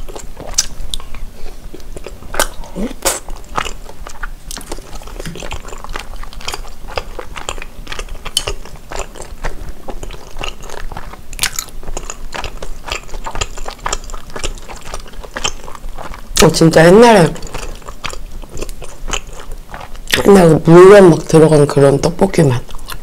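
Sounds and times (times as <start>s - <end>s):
person chewing: 0.0s - 21.3s, 22.6s - 23.0s.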